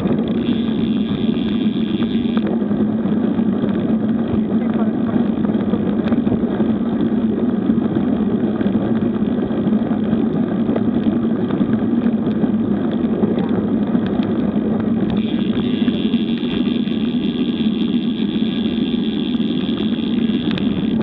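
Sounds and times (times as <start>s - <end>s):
constant low hum: 0.0s - 21.0s
wind and road rushing noise: 0.0s - 21.0s.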